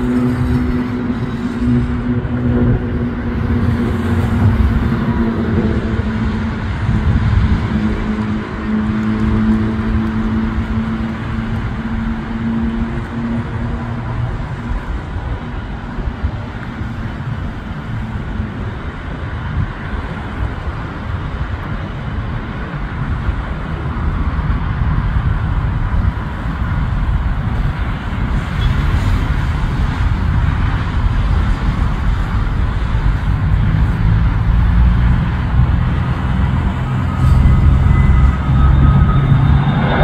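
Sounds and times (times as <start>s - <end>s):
cars passing: 0.0s - 40.0s
faint jet whine: 0.0s - 40.0s
jet engine rumble: 0.0s - 40.0s.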